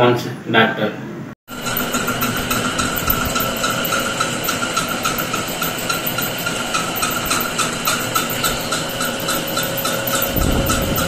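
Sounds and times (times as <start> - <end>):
lathe humming with pulsing whine: 1.5 - 11.0.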